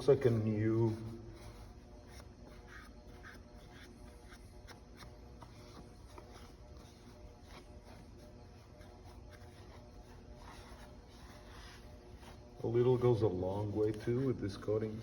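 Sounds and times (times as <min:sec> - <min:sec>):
cloth rubbing on metal wheel: 0:00.0 - 0:15.0.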